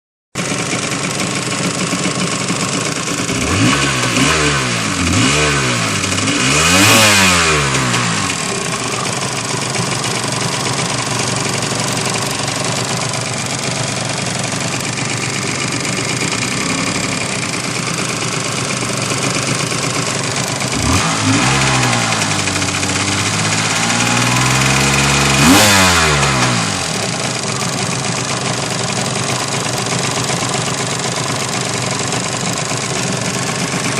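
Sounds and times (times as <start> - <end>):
jet ski engine idling and revving: 0.4 - 33.9.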